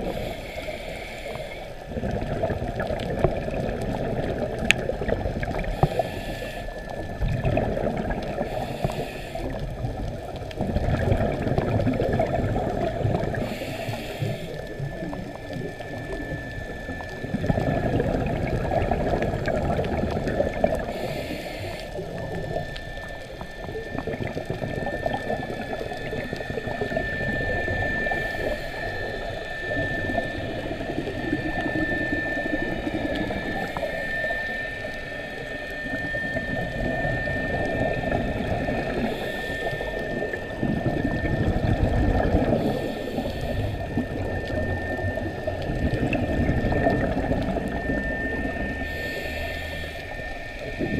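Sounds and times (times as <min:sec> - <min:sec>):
regulator bubbles: 0:00.0 - 0:50.9
steady high whine: 0:00.0 - 0:50.9
underwater rumbling wash: 0:00.0 - 0:50.9.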